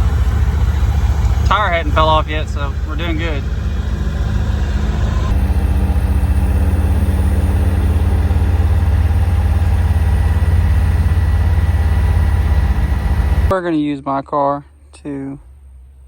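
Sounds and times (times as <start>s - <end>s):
vehicle engine running: 0.0s - 13.6s.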